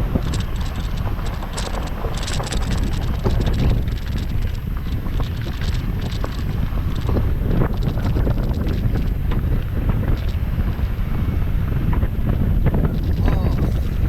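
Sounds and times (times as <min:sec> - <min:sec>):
cabin ticks and rattles: 0:00.0 - 0:14.0
car road and engine rumble: 0:00.0 - 0:14.0
wind buffeting microphone: 0:00.0 - 0:14.0.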